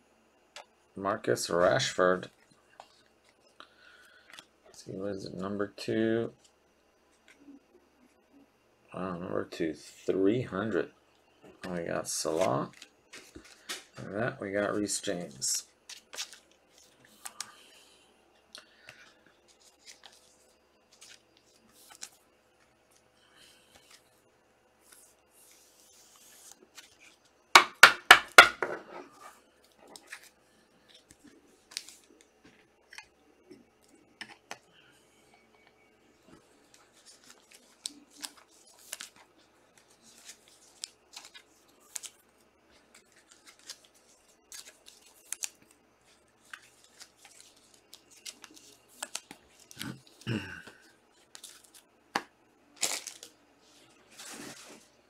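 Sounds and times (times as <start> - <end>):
trading cards handled by hand: 1.5 - 4.9, 11.5 - 24.2, 24.8 - 55.0.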